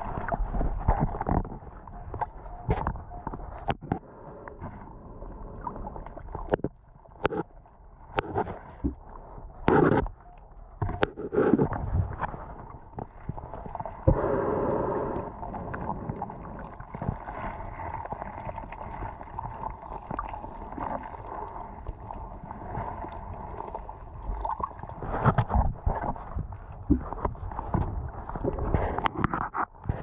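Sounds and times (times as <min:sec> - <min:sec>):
underwater gurgling water: 0:00.0 - 0:30.0.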